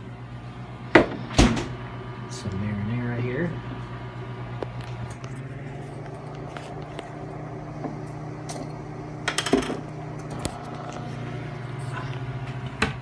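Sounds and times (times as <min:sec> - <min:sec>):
microwave humming: 0:00.0 - 0:13.0.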